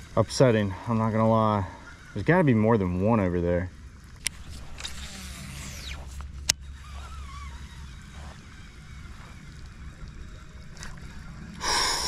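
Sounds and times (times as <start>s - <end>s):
fishing reel spool whirring: 0.0s - 12.0s
low steady rumble: 0.0s - 12.0s.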